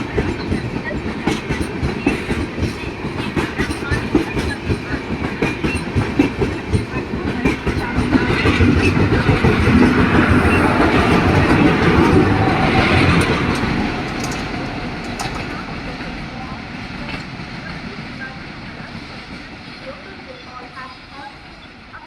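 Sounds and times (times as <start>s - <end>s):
train wheels clattering over rails: 0.0s - 20.9s.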